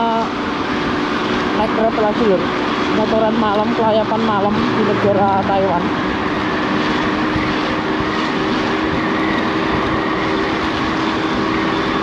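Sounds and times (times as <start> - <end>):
road noise: 0.0 - 12.0
steady motor hum: 0.0 - 12.0
wind on microphone: 0.0 - 12.0.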